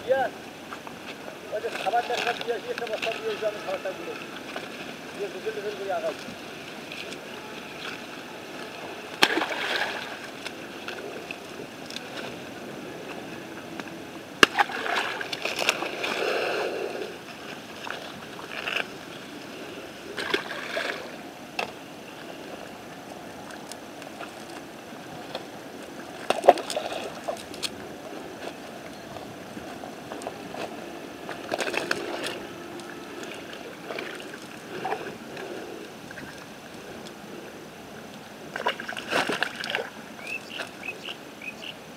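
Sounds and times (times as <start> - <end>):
background hiss: 0.0 - 41.9.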